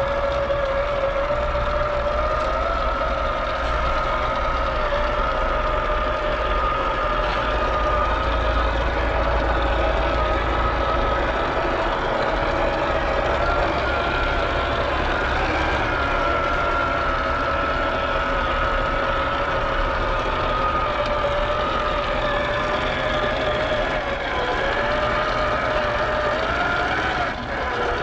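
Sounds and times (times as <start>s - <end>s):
toy car electric motor whining: 0.0s - 28.0s.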